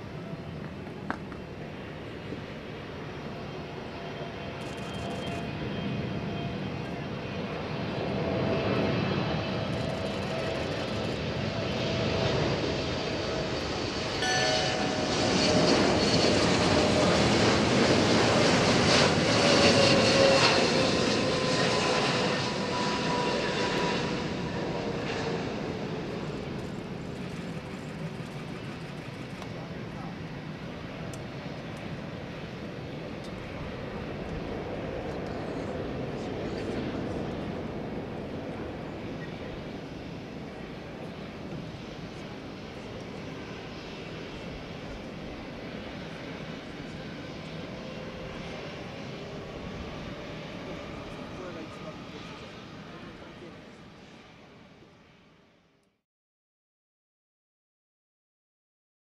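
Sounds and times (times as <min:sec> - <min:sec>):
jet airliner roar passing: 0:00.0 - 0:55.4
jet engine whine: 0:00.0 - 0:56.0.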